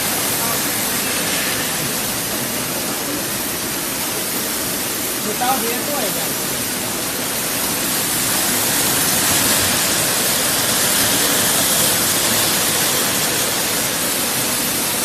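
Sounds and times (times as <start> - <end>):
factory equipment rushing hiss: 0.0 - 15.0.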